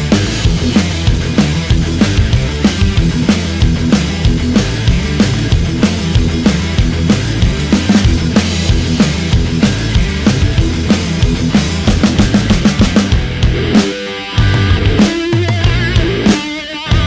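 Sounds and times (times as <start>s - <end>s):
rock music with drums and guitar: 0.0s - 17.0s.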